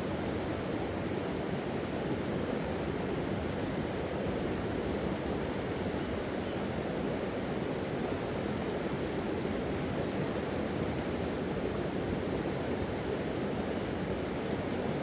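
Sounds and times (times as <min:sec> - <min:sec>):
flowing water rushing: 0:00.1 - 0:15.0.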